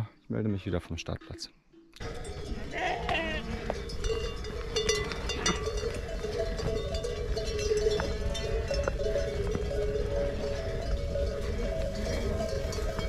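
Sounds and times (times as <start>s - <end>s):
livestock bells jangling: 1.0s - 13.0s.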